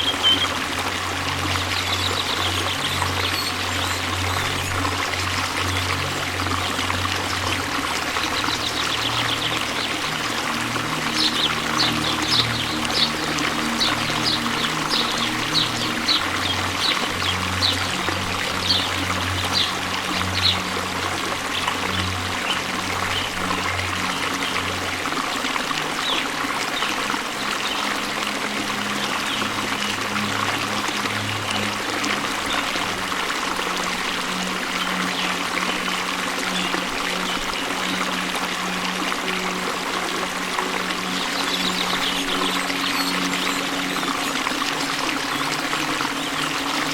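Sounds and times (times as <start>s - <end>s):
waterfall rushing water: 0.0s - 46.9s.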